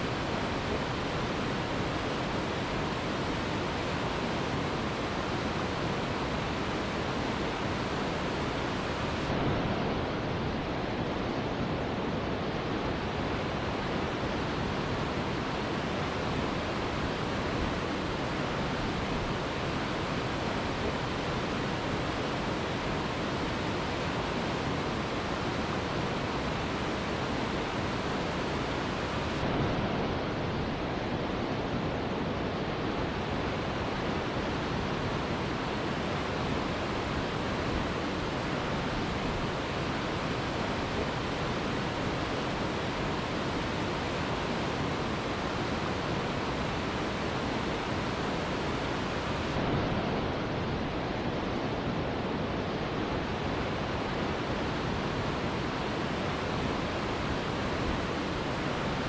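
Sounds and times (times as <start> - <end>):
large waterfall rushing: 0.0 - 59.0.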